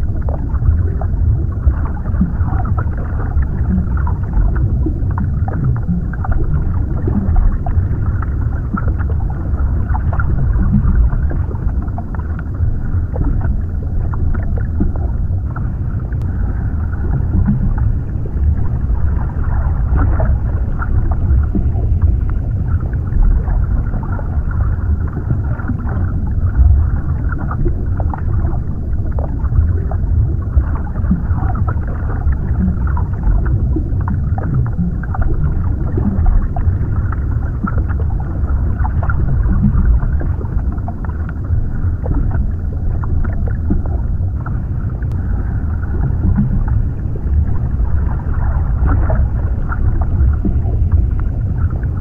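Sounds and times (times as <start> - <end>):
deep underwater rumble: 0.0 - 52.0
faint bubbling crackles: 0.0 - 52.0.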